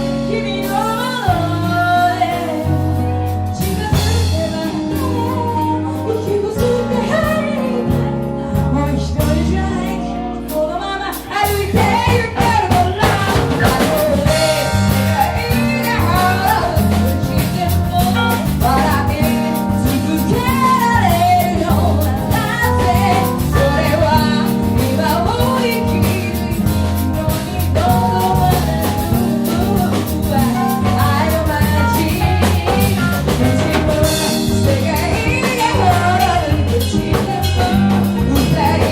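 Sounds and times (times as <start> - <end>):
band playing: 0.0 - 38.9
held bass notes: 0.0 - 38.9.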